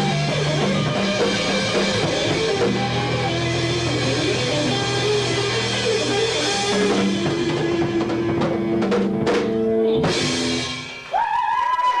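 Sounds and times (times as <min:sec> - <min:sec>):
drum kit fills: 0:00.0 - 0:11.9
live rock band: 0:00.0 - 0:12.0.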